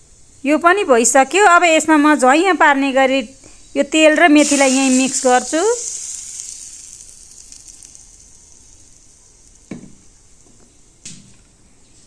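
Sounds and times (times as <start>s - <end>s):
hot oil sizzling: 1.0s - 11.0s.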